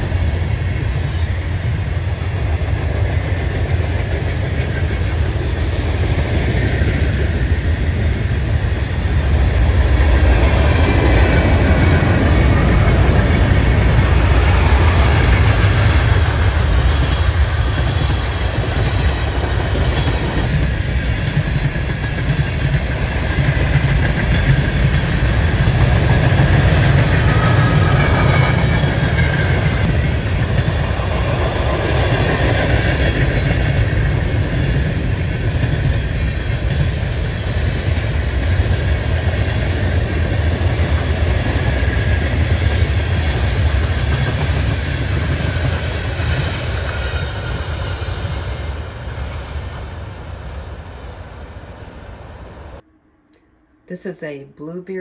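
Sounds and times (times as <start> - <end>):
freight train rolling past: 0.0 - 53.4.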